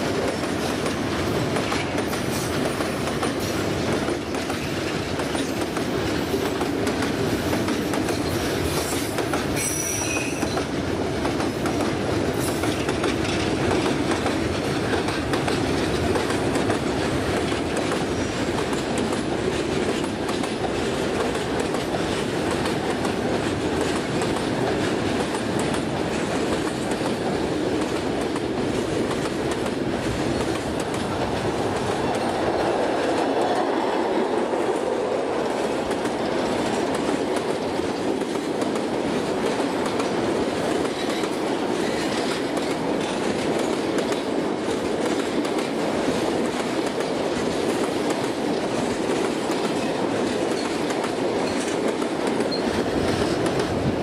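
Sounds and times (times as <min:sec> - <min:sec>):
clickety-clack of rail joints: 0:00.0 - 0:54.0.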